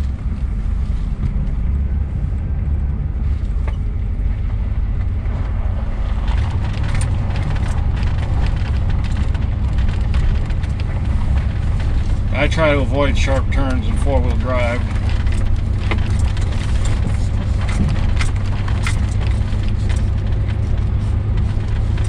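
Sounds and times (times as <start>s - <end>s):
pickup truck engine rumble: 0.0s - 22.0s
road noise: 0.0s - 22.0s
tyres crackling over gravel: 2.9s - 22.0s.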